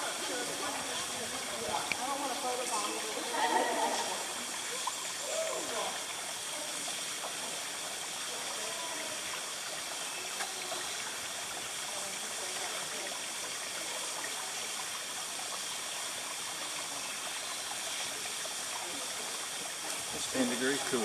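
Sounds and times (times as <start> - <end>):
hissing outdoor background noise: 0.0 - 21.0.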